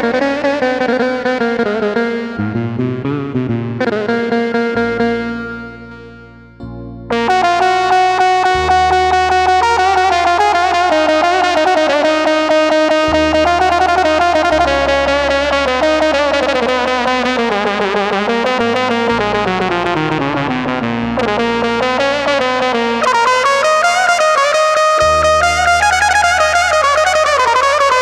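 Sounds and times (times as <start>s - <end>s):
held bass notes: 0.0s - 28.0s
keyboard playing fast melody: 0.0s - 28.0s.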